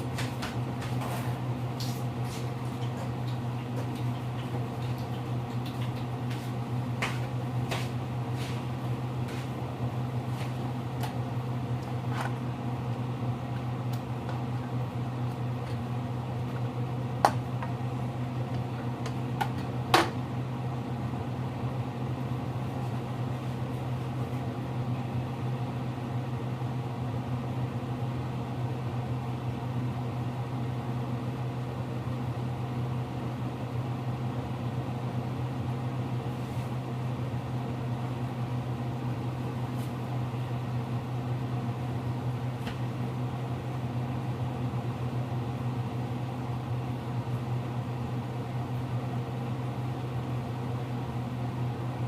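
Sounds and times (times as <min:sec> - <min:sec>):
kitchen appliance humming: 0:00.0 - 0:52.0.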